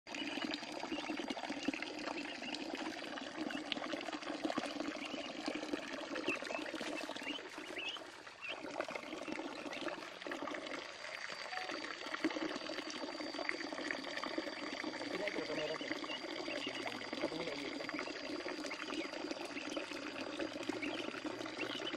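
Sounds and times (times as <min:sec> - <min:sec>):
small water splashes: 0:00.1 - 0:21.9
water pouring into a pool: 0:00.1 - 0:21.9.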